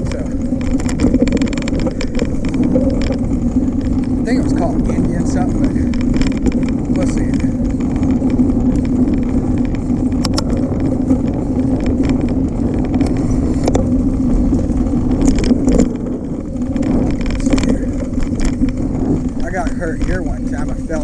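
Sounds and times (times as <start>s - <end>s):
bicycle tyres rolling: 0.0s - 21.0s
bike rattling over bumps: 0.0s - 21.0s.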